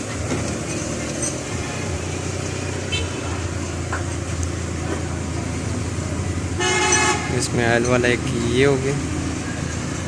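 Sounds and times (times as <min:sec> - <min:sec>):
traffic: 0:00.0 - 0:10.0.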